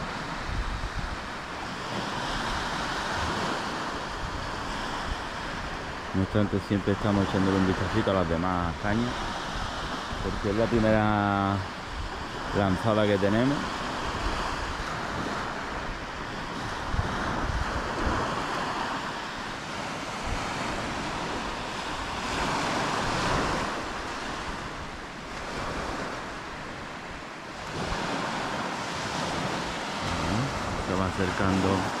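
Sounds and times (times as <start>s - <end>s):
waves breaking on a pebbly shore: 0.0s - 32.0s
wind on the microphone: 0.0s - 32.0s.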